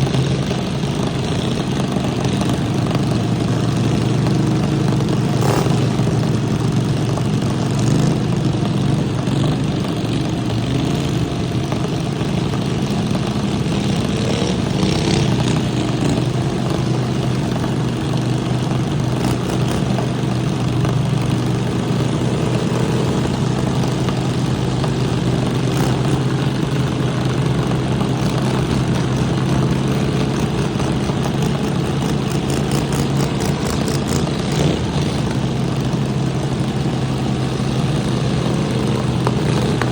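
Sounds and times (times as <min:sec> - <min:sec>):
lawn mower engines running: 0:00.0 - 0:39.9.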